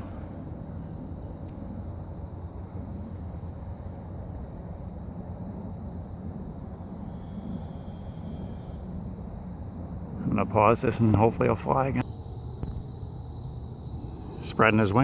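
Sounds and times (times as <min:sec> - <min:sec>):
insects chirping: 0:00.0 - 0:15.0
low outdoor rumble: 0:00.0 - 0:15.0.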